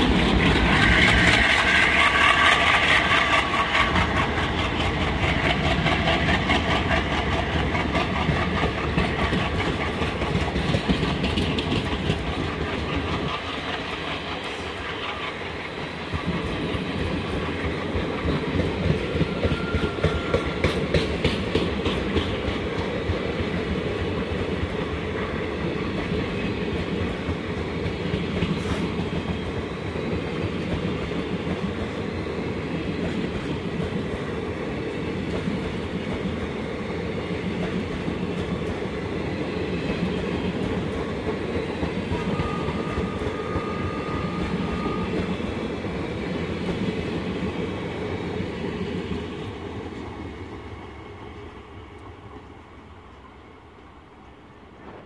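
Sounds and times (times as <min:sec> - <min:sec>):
train wheels clickety-clack: 0:00.0 - 0:53.9
train rumble: 0:00.0 - 0:55.0.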